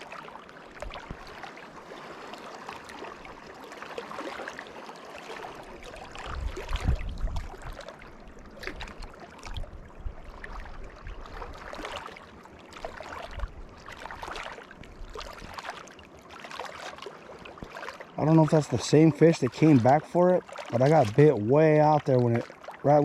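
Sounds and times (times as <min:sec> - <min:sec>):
water lapping at shore: 0:00.0 - 0:23.0.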